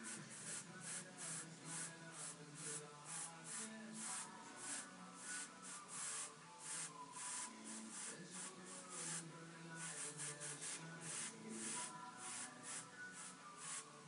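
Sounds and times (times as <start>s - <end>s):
airbrush hissing in bursts: 0.0s - 14.0s.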